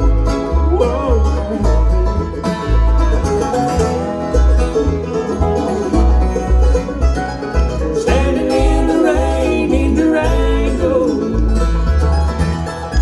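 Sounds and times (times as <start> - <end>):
bluegrass band playing: 0.0 - 13.0
plucked bass notes: 0.0 - 13.0.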